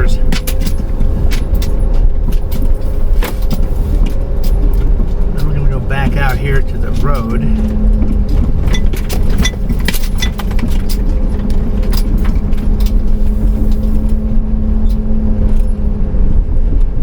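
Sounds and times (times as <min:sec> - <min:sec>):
loose things rattling: 0:00.0 - 0:16.0
constant hum: 0:00.0 - 0:17.0
road rumble: 0:00.0 - 0:17.0.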